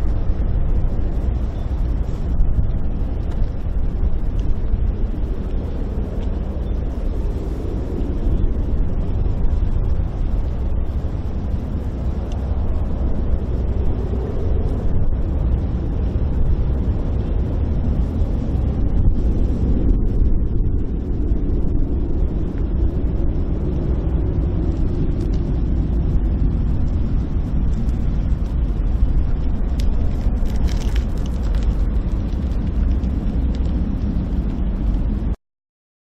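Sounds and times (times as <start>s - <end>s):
jet engines rumbling: 0.0s - 35.4s.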